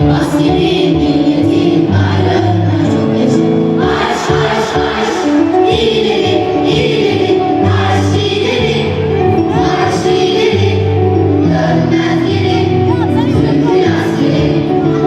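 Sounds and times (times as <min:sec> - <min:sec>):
choir singing: 0:00.0 - 0:15.0
instrumental backing music: 0:00.0 - 0:15.0.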